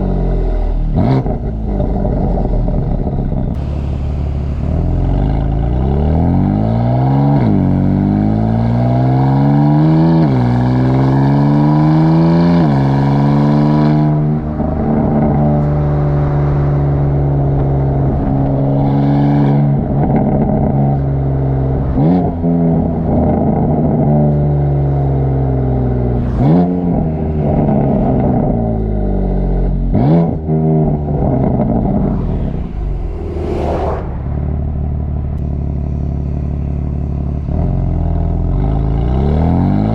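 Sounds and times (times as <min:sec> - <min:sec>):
car exhaust accelerating through shifts: 0:00.0 - 0:39.9.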